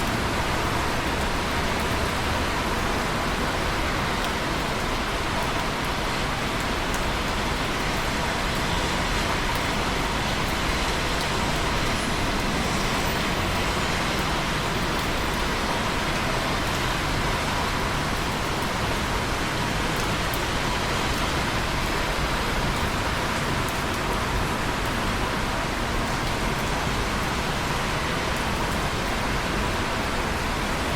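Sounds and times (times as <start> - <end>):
rain drop ticks: 0.0 - 15.5, 16.1 - 30.9
steady rain hiss: 0.0 - 30.9.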